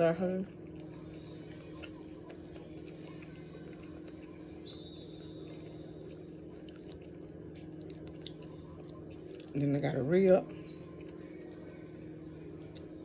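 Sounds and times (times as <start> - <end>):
steady low hum: 0.0 - 13.0
person chewing meat: 0.4 - 13.0.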